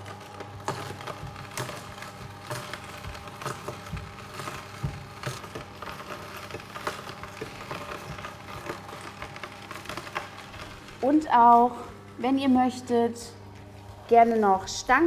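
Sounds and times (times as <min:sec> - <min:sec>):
juicer motor humming: 0:00.0 - 0:15.0.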